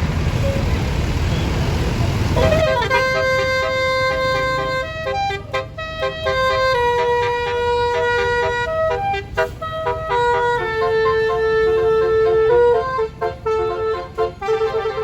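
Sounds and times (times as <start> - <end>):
musical air horn melody: 2.4 - 15.0.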